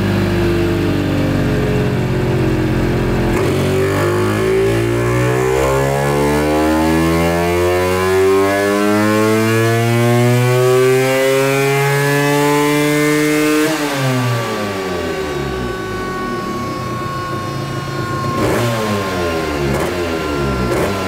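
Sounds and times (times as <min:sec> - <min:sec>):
scooter engine revving at full throttle: 0:00.0 - 0:21.0.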